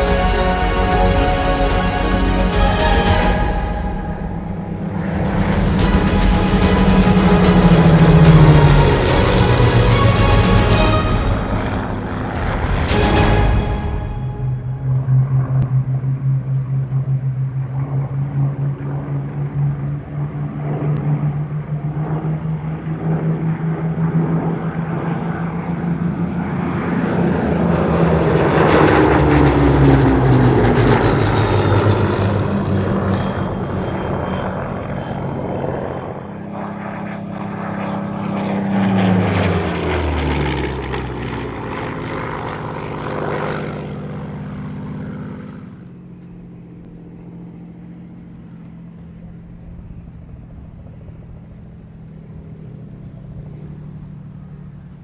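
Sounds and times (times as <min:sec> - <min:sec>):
propeller plane engine passing: 0:00.0 - 0:55.0.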